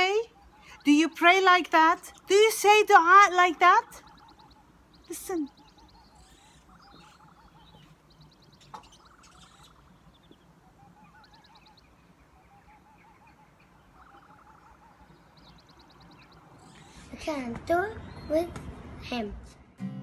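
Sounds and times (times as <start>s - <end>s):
rapid high bird trill: 0.0s - 17.2s
lower buzzy bird trill: 0.0s - 18.4s.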